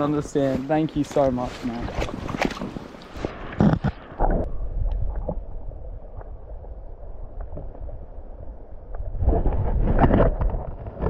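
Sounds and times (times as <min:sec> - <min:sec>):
stream flowing: 0:00.0 - 0:09.0
wind rumbling on microphone: 0:00.0 - 0:11.0.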